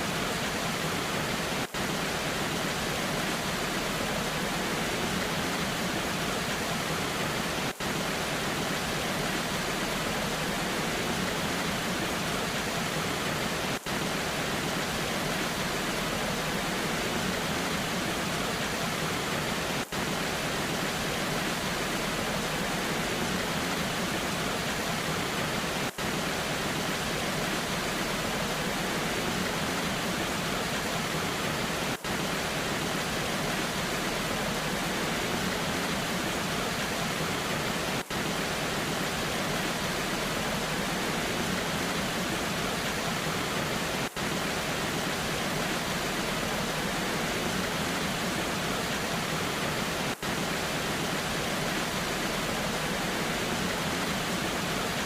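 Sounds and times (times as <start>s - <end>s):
rain: 0.0s - 55.0s
waterfall rushing: 0.0s - 55.0s.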